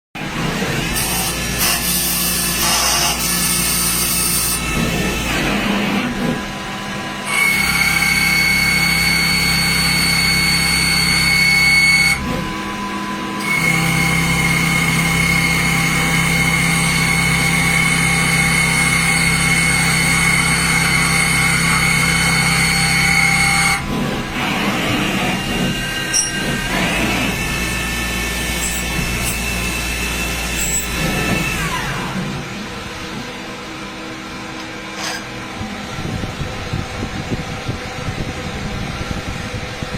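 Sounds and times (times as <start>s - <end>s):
lathe high-pitched machine whine: 0.2s - 39.9s.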